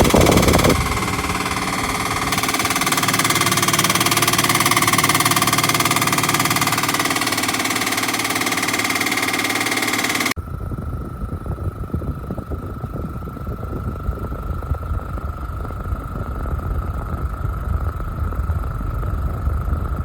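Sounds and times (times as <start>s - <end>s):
steady hum: 0.0s - 16.3s
air conditioner fan whirring: 0.0s - 20.0s.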